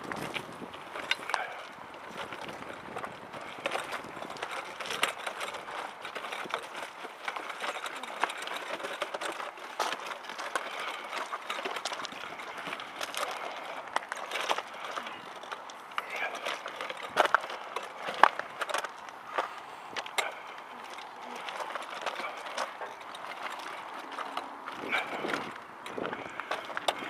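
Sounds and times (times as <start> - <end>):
footsteps on gravel: 0.0 - 27.0
wheelchair wheels crunching gravel: 0.0 - 27.0.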